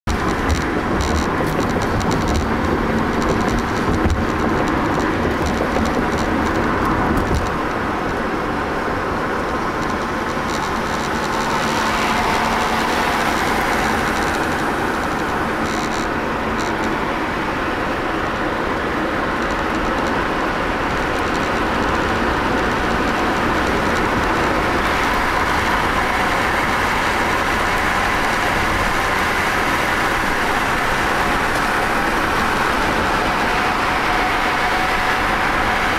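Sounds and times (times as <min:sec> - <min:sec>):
car interior road noise: 0:00.0 - 0:35.9.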